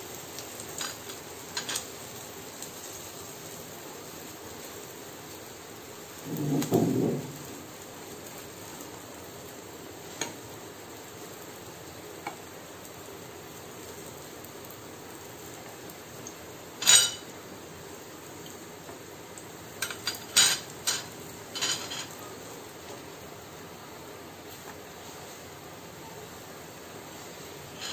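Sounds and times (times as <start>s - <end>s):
batter sizzling in oil: 0.0s - 27.9s.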